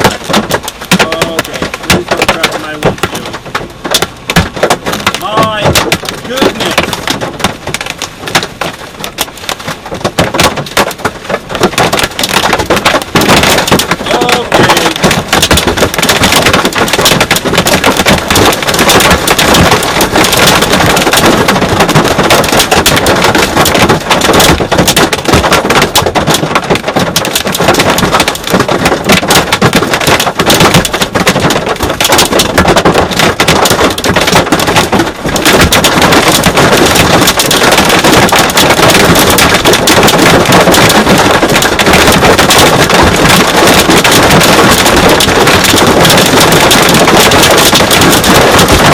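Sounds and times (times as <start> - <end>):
hail and rain on truck roof: 0.0 - 48.9.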